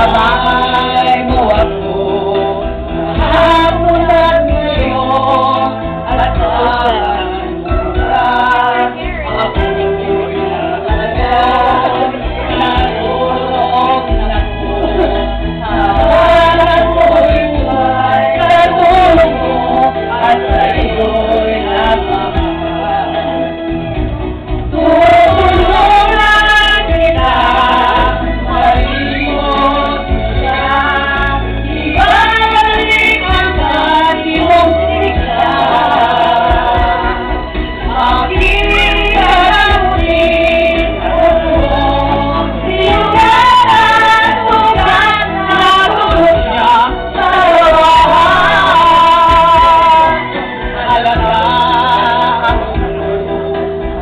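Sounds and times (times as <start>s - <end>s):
amplified backing track: 0.0s - 54.0s
man and woman singing karaoke: 0.0s - 54.0s.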